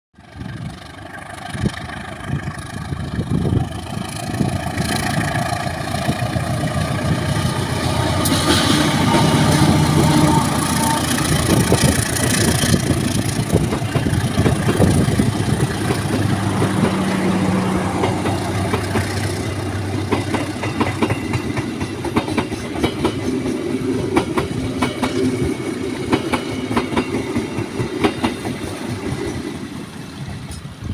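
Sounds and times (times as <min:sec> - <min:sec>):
locomotive engine droning: 0:00.2 - 0:28.3
train wheels clacking: 0:00.4 - 0:30.8.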